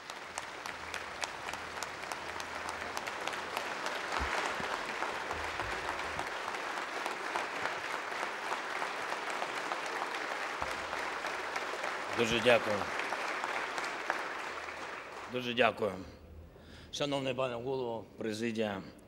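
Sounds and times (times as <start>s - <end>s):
crowd applauding: 0.0s - 15.9s.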